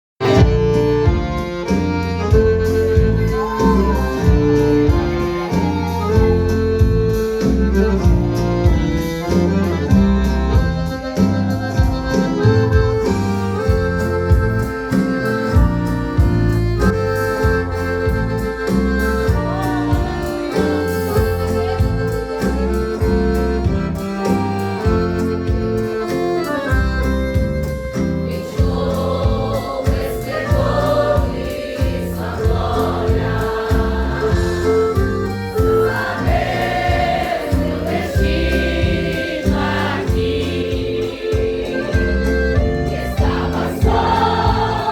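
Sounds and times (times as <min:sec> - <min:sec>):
band playing sustained chords: 0:00.2 - 0:44.9
steady drum beat: 0:00.2 - 0:44.9
voices singing: 0:00.3 - 0:09.8, 0:11.9 - 0:44.9
deep pulsing bass: 0:00.4 - 0:44.9.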